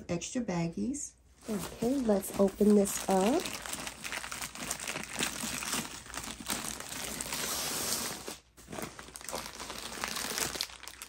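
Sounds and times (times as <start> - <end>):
packaging crinkling: 1.4 - 11.0.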